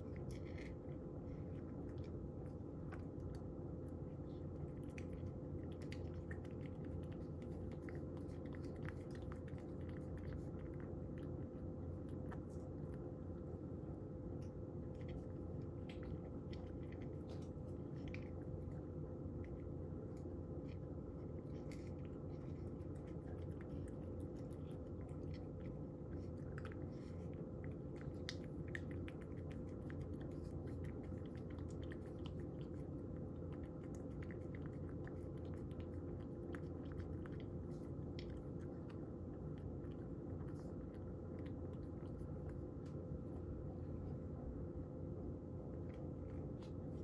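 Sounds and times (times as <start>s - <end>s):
cat crunching dry kibble: 0.0s - 43.2s
steady low hum: 0.0s - 47.0s.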